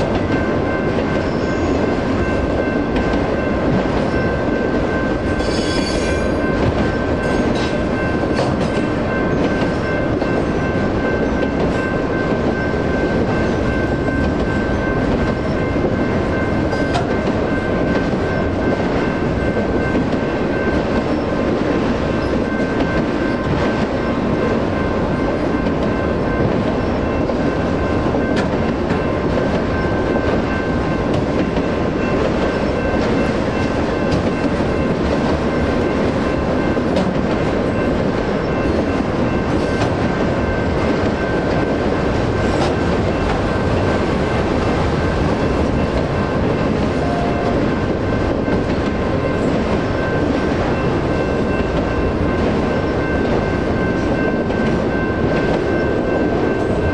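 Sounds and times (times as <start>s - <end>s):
crossing bell ringing: 0.0s - 56.9s
freight train wheels on rails: 0.0s - 56.9s.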